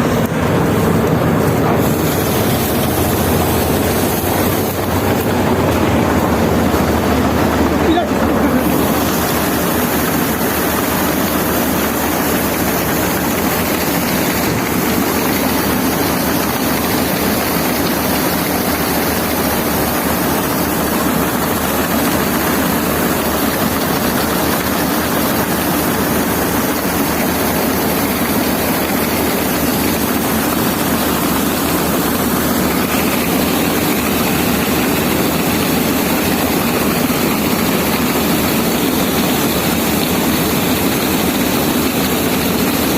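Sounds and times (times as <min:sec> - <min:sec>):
combine harvester engine drone: 0:00.0 - 0:42.9
high steady whine: 0:00.0 - 0:42.9.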